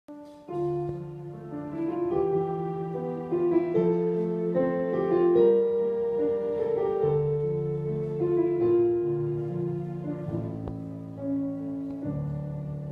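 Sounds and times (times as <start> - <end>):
keyboard playing held chords: 0.2 - 12.9.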